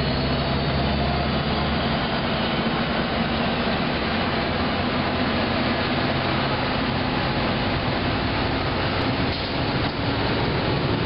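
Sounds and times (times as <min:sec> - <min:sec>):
train engine idling: 0:00.0 - 0:11.0.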